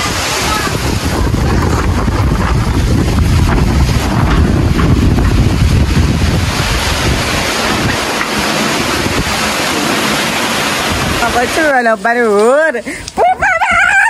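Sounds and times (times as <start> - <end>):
heavy rain pouring: 0.0 - 14.0
wind gusts buffeting microphone: 0.0 - 14.0.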